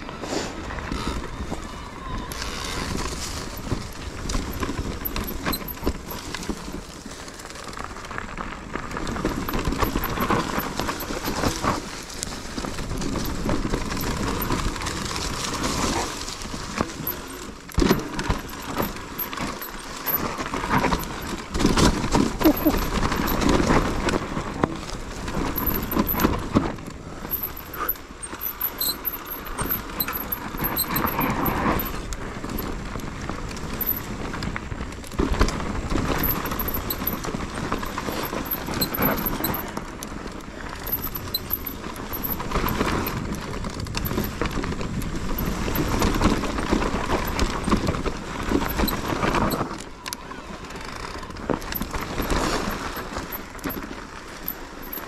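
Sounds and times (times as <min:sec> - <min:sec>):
bike tyres rolling over stones: 0:00.0 - 0:55.0
wind rumble on microphone: 0:00.0 - 0:55.0
bike rattling over bumps: 0:00.7 - 0:55.0.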